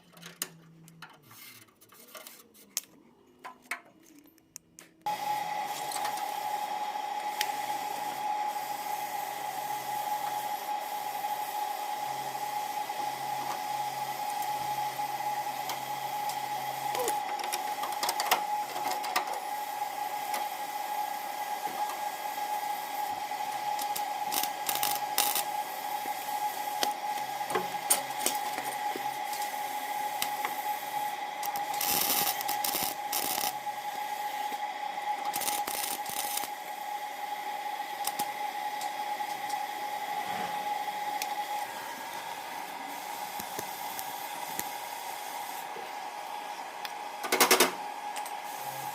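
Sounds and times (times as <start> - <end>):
power tool cutting sheet metal: 5.1 - 45.8, 46.5 - 48.9.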